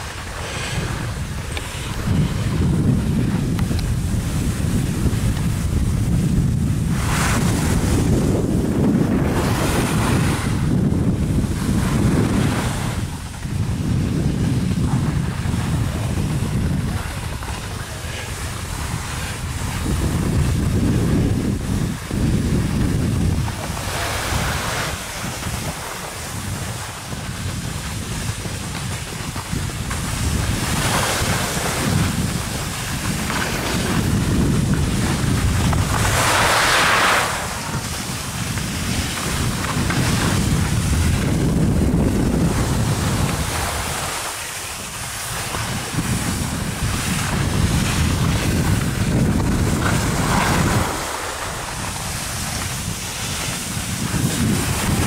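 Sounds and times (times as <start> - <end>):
skis hissing over slushy snow: 0.0 - 3.4, 4.1 - 55.0
wind buffeting microphone: 0.0 - 55.0.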